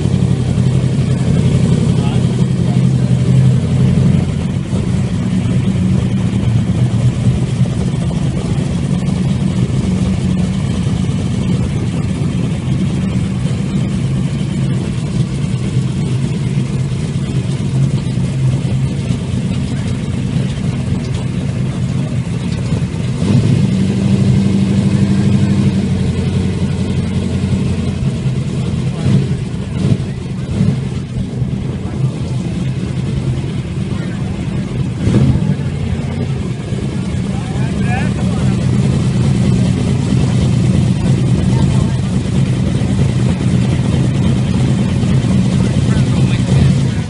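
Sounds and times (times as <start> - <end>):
loud car engine running: 0.0 - 47.0.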